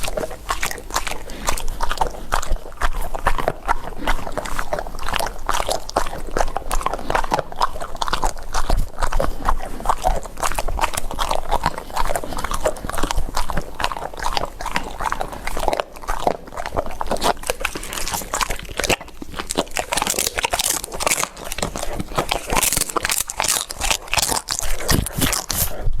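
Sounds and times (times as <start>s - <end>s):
dogs chewing and crunching food: 0.0s - 26.0s.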